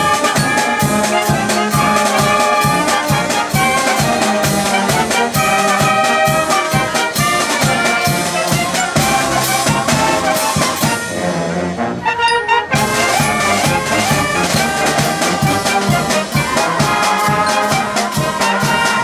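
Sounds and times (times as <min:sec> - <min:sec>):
drums beating: 0:00.0 - 0:11.1, 0:12.7 - 0:19.0
concert band playing: 0:00.0 - 0:19.0.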